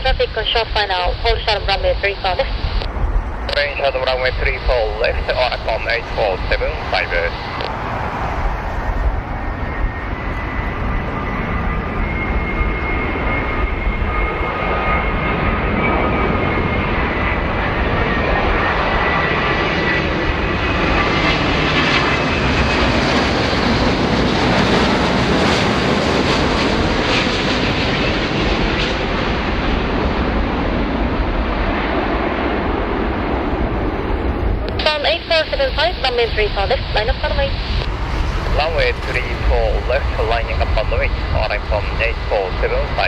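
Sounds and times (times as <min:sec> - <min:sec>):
jet airliner passing: 0:00.0 - 0:43.0.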